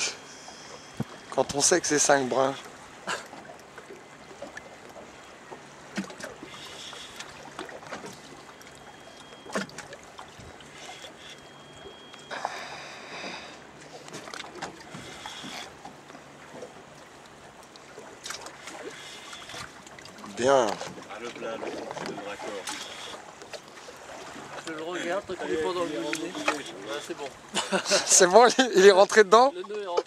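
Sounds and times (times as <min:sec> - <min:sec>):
boat engine idling: 0:00.0 - 0:30.0.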